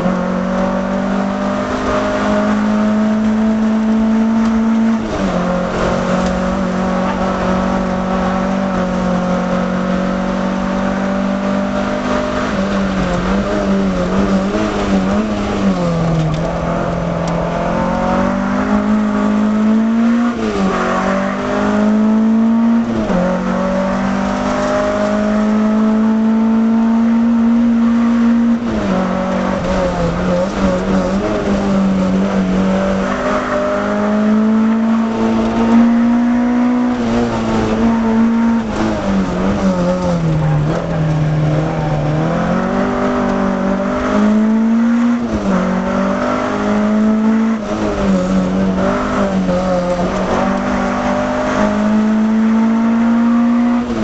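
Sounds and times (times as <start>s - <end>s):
car engine pulling hard: 0.0s - 54.0s.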